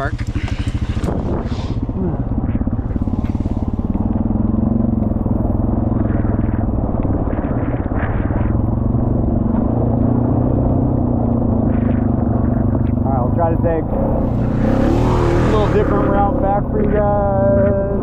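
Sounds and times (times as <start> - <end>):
quad bike engine running: 0.0 - 18.0.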